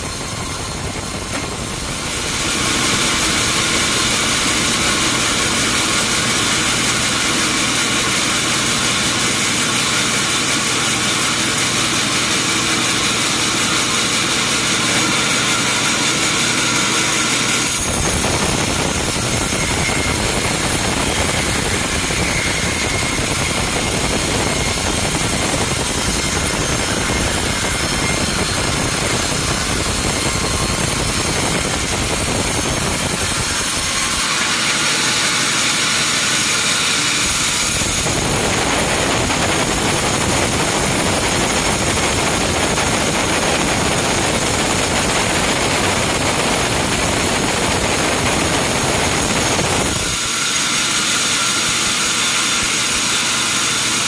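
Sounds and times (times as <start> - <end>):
saw cutting wood: 0.0 - 54.0
sawmill machinery running: 0.0 - 54.0.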